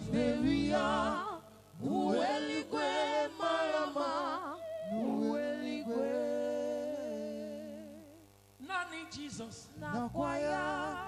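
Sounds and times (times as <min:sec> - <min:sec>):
gospel voices singing: 0:00.0 - 0:11.0.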